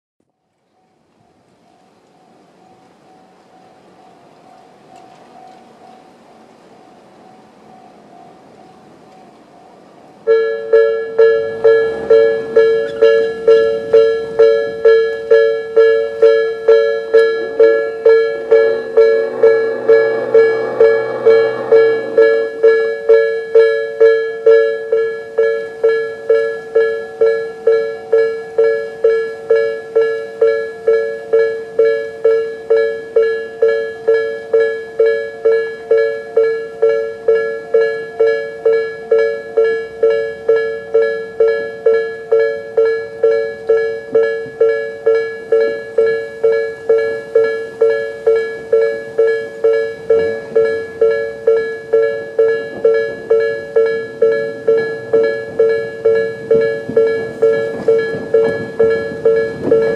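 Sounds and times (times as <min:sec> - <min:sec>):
level crossing bell dinging: 0:10.3 - 0:59.9.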